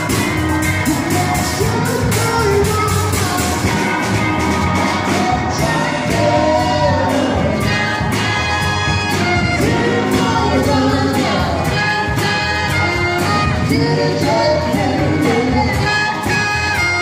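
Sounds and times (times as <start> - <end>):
horns: 0.0 - 17.0
saxophone: 0.0 - 17.0
steady drum beat: 0.0 - 17.0
trumpet: 0.0 - 17.0.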